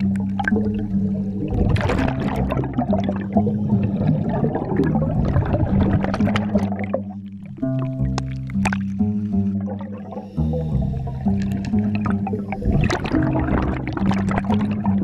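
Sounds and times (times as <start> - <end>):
background music with low notes: 0.0 - 15.0
bubbles gurgling underwater: 0.0 - 15.0.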